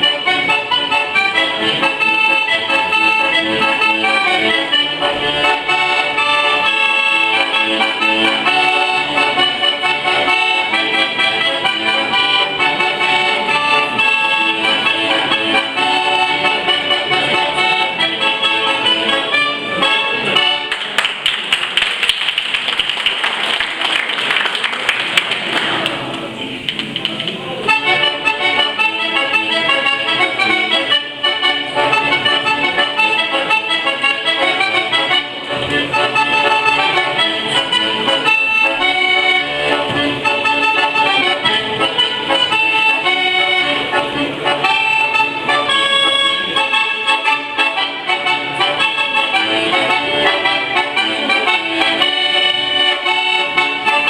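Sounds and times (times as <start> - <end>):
button accordion playing lively tune: 0.0 - 22.2, 27.5 - 54.0.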